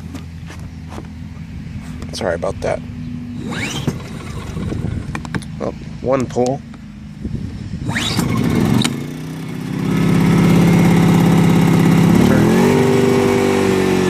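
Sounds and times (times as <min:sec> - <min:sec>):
generator engine droning: 0:00.0 - 0:14.0.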